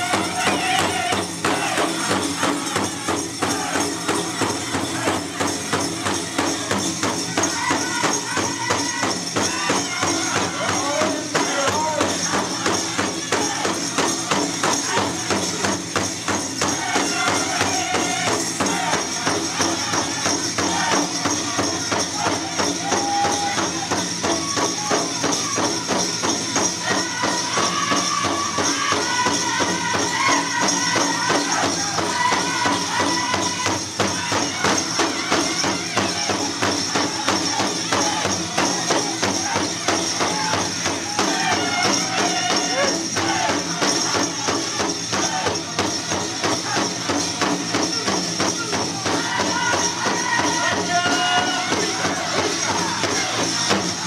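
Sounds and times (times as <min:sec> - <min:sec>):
group singing a chant: 0:00.0 - 0:47.9, 0:48.6 - 0:54.0
bells jingling: 0:00.0 - 0:54.0
drum beating steady rhythm: 0:00.0 - 0:54.0.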